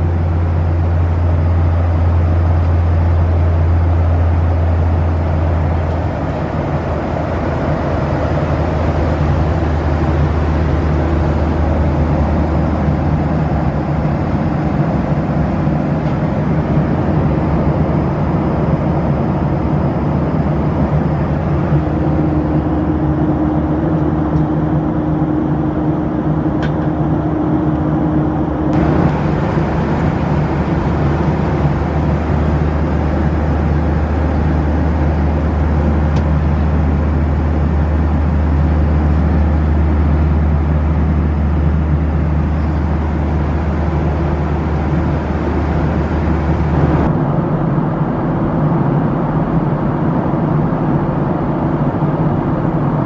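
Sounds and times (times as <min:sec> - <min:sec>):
jet engine hum: 0:00.0 - 0:53.0
rushing airflow over fuselage: 0:00.0 - 0:53.0.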